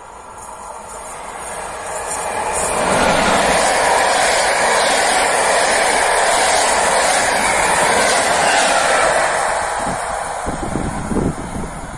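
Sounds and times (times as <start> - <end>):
train wheels rushing on rails: 0.0 - 11.9.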